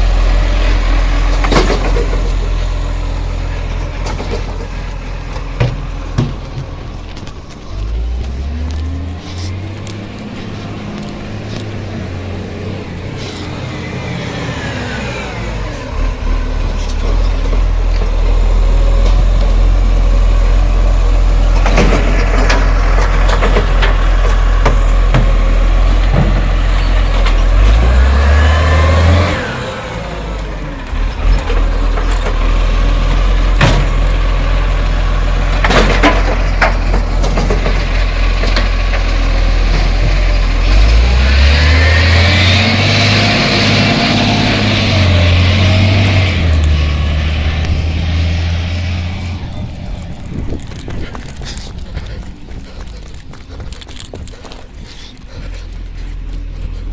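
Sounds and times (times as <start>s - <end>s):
garbage truck engine revving: 0.0s - 54.3s.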